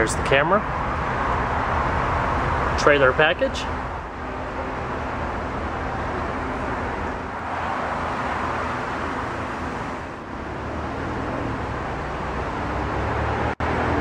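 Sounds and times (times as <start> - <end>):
truck engine idling: 0.0 - 12.7
rush of outdoor noise: 0.0 - 14.0.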